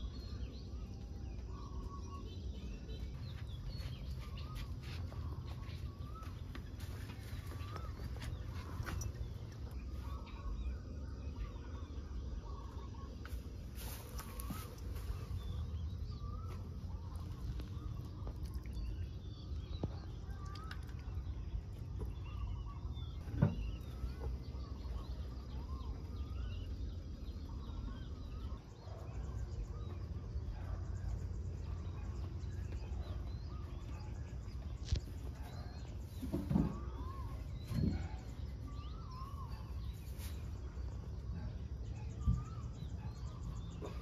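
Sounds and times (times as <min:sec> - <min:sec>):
birds chirping: 0:00.0 - 0:44.0
low outdoor rumble: 0:00.0 - 0:44.0.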